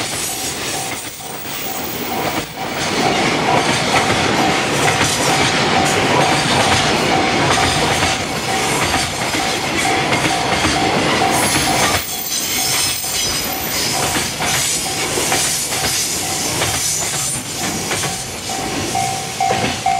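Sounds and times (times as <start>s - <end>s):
freight train rolling past: 0.0s - 19.9s.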